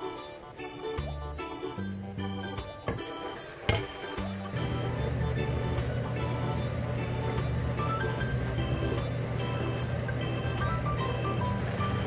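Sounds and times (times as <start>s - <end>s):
light instrumental music: 0.0s - 12.0s.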